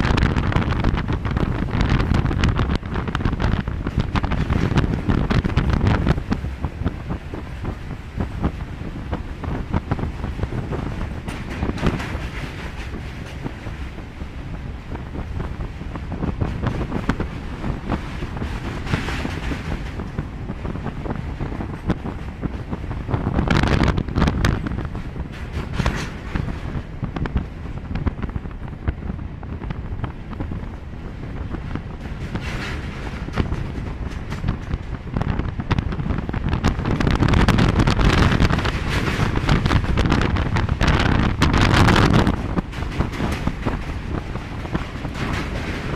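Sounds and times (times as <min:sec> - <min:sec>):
train rumbling over bridge: 0:00.0 - 0:45.9
wheels clacking on rails: 0:00.0 - 0:45.9
wind buffeting microphone: 0:00.0 - 0:45.9.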